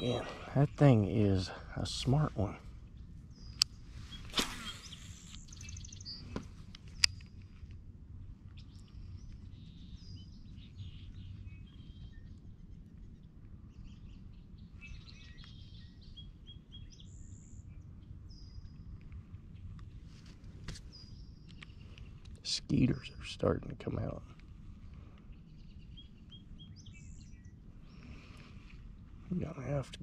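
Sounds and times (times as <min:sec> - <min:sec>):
low background rumble: 0:00.0 - 0:30.0
small birds chirping: 0:00.0 - 0:30.0.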